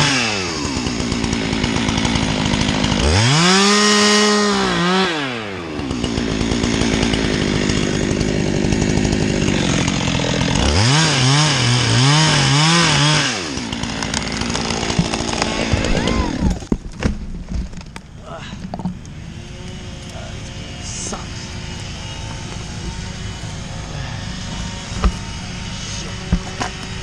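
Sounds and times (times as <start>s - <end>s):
chainsaw revving: 0.0s - 16.8s, 18.8s - 27.0s.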